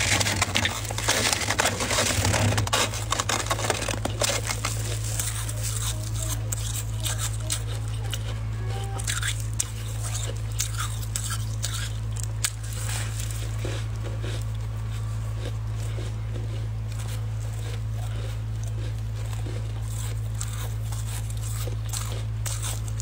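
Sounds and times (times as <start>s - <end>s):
frost being chewed: 0.0s - 23.0s
low hum: 0.0s - 23.0s.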